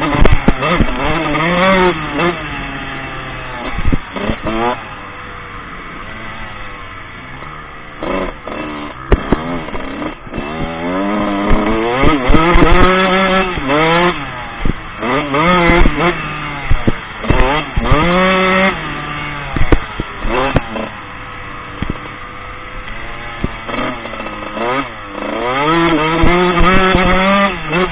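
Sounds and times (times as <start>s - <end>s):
motocross bike engine revving: 0.0s - 27.9s.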